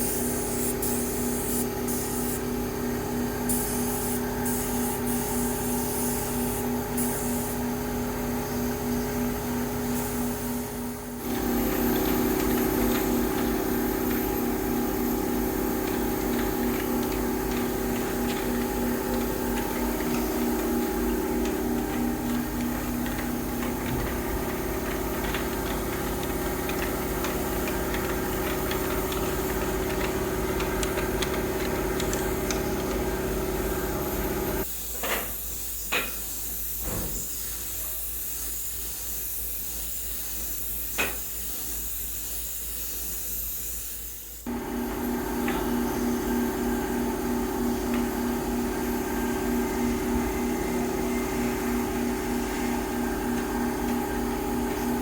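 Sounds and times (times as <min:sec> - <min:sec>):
woodworking machinery humming: 0:00.0 - 0:34.6, 0:44.5 - 0:55.0.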